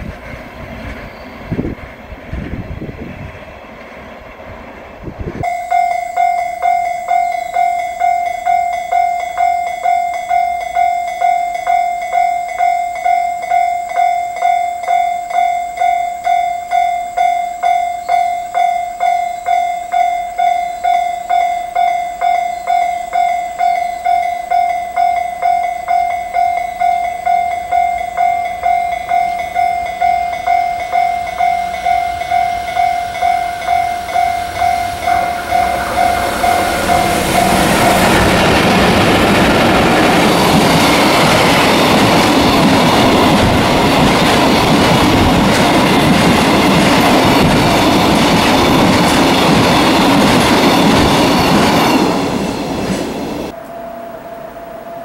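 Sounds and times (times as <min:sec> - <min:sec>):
train rumbling past: 0:00.0 - 0:55.0
level crossing bell ringing: 0:05.4 - 0:53.5.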